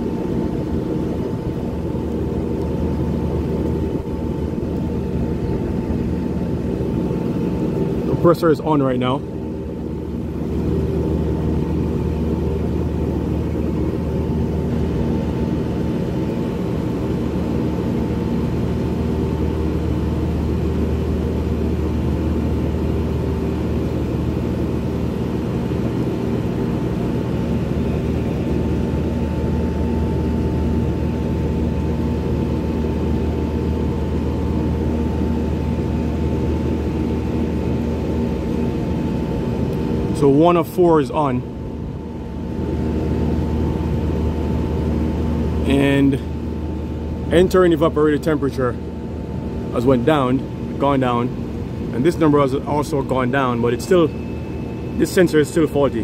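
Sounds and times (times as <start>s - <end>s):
air-conditioning unit humming: 0.0s - 56.0s.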